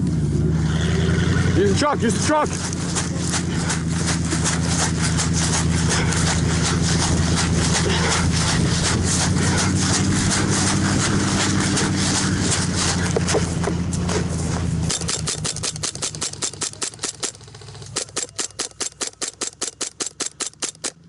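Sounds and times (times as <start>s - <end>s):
truck engine running: 0.0s - 21.0s
knocks and rattles: 2.5s - 21.0s.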